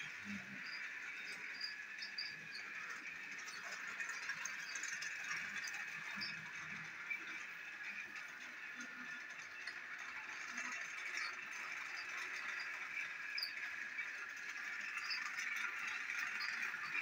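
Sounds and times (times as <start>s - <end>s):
toy train motor whirring: 0.0s - 17.0s
toy wheels rattling and clicking: 0.0s - 17.0s.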